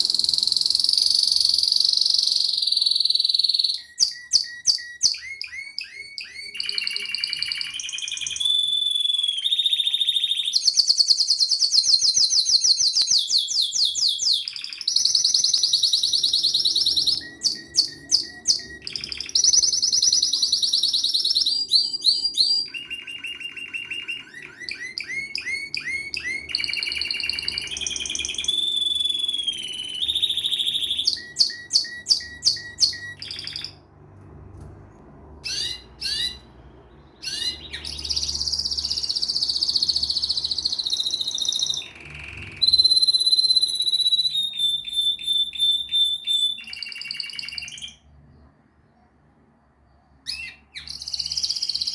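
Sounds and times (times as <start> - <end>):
canary singing: 0.0 - 34.0, 35.2 - 48.7, 50.1 - 51.9.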